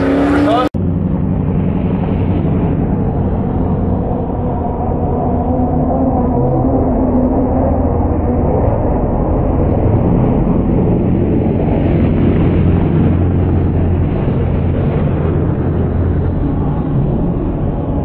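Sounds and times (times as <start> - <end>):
race truck engines revving: 0.0 - 18.0.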